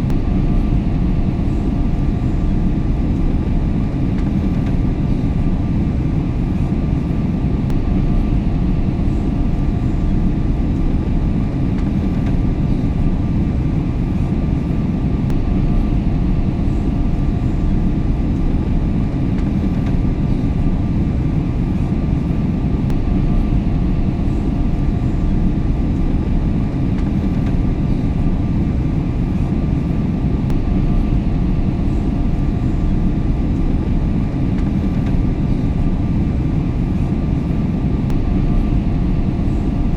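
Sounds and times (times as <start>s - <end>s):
airliner cabin engine hum: 0.0s - 39.9s.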